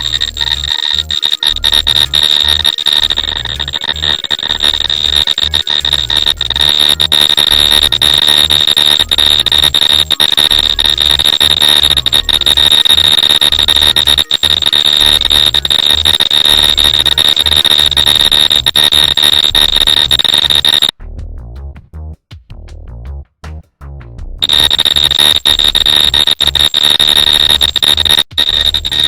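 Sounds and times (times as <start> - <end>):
electric arc crackling: 0.0 - 20.9, 24.4 - 29.0
high-pitched whine: 0.0 - 20.9, 24.4 - 29.0
jittering low hum: 0.0 - 20.9, 24.4 - 29.0.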